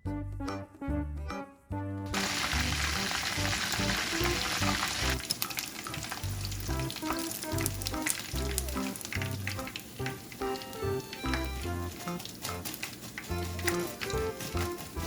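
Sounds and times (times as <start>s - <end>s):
background music: 0.0s - 15.0s
food sizzling in a pan: 2.2s - 15.0s.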